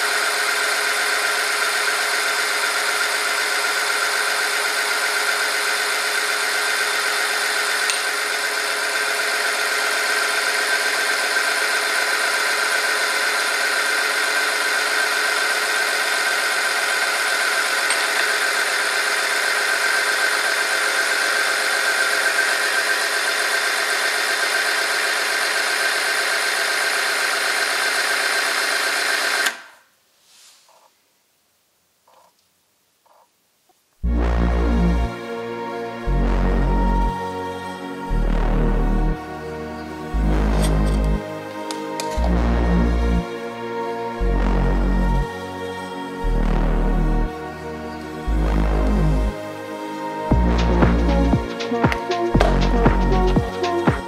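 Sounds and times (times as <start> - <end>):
friction test machine running: 0.0 - 29.8, 34.0 - 54.0.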